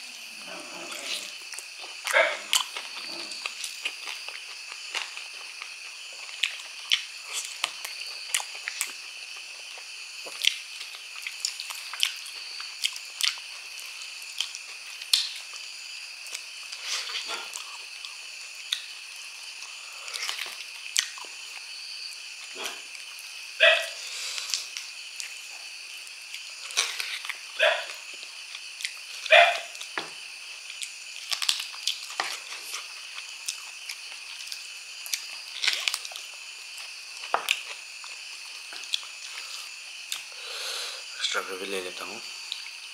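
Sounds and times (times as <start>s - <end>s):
man chewing wetly: 0.9s - 15.6s, 16.2s - 21.7s, 26.2s - 40.4s, 42.4s - 42.8s.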